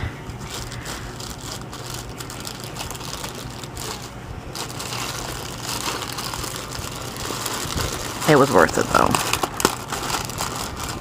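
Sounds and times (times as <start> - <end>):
bag rustling and crinkling: 0.4 - 11.0.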